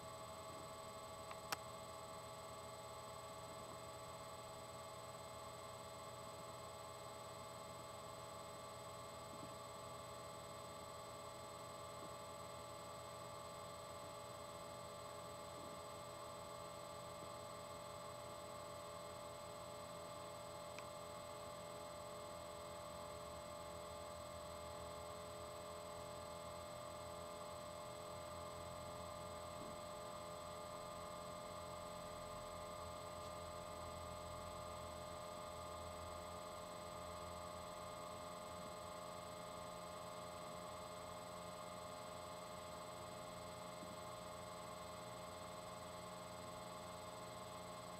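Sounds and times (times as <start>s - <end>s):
faint electrical hum: 0.0s - 47.9s.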